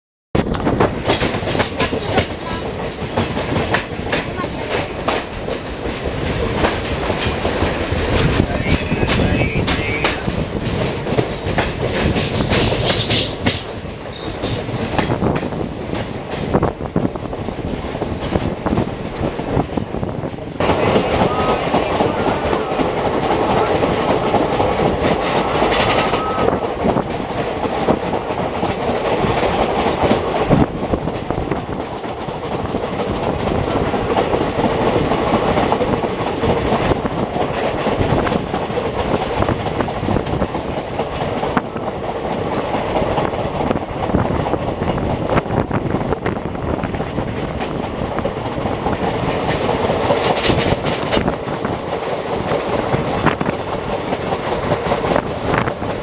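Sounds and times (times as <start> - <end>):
train rumbling: 0.4 - 56.0
wheels clattering over rails: 0.7 - 56.0.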